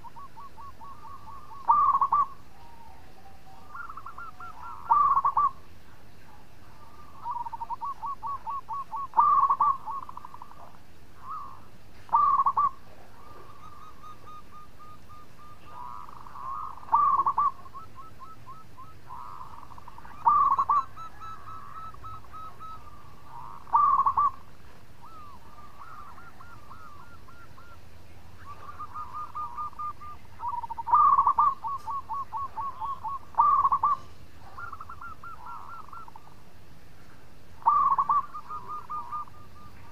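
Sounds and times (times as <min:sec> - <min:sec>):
dove cooing: 0:00.0 - 0:36.4, 0:37.0 - 0:39.9.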